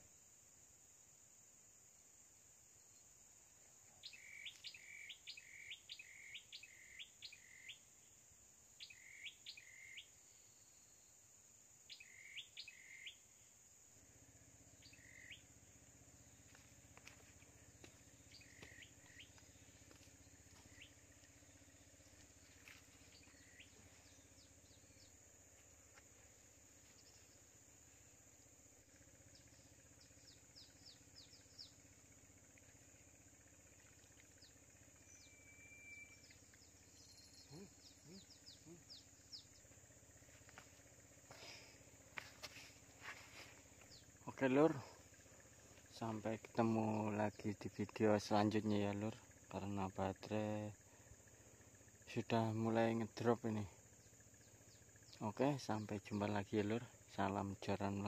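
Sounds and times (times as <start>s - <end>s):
faint low hum: 0.0s - 58.0s
small bird chirping: 3.8s - 8.2s, 8.8s - 11.2s, 11.9s - 58.0s.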